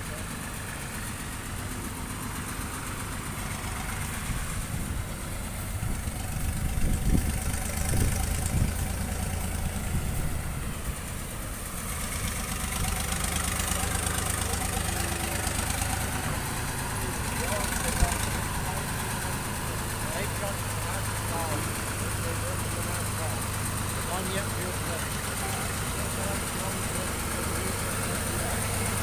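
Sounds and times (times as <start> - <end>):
construction machine engine idling: 0.0 - 29.0.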